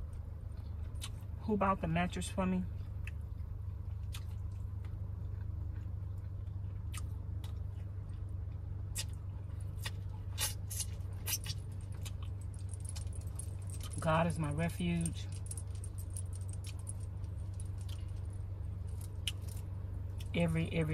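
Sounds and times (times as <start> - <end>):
chewing and picking at food: 0.0 - 1.4, 2.7 - 20.5
steady low hum: 0.0 - 20.9.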